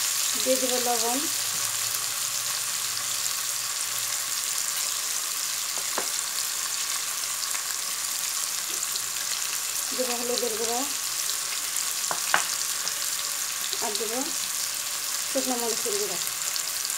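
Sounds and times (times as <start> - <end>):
potatoes and onions sizzling in oil: 0.0 - 16.9.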